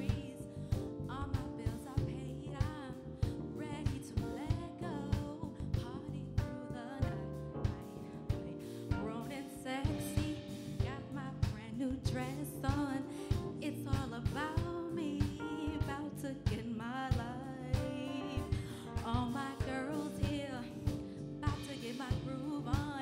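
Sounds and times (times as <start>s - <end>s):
drum kit beat: 0.0s - 23.0s
woman singing: 0.0s - 23.0s.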